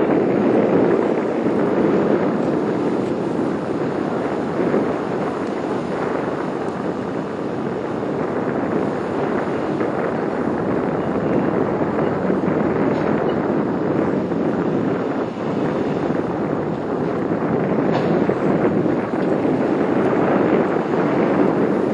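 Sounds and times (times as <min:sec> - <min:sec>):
ferry engine rumble: 0:00.0 - 0:21.9
wind buffeting microphone: 0:00.0 - 0:21.9.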